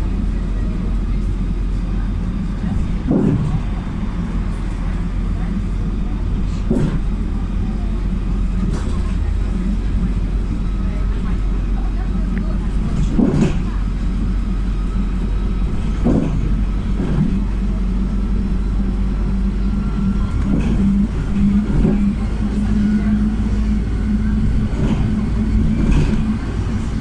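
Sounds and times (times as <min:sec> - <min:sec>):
bus engine droning: 0:00.0 - 0:27.0
knocks and rattles of bus body: 0:00.0 - 0:27.0
low road rumble: 0:00.0 - 0:27.0.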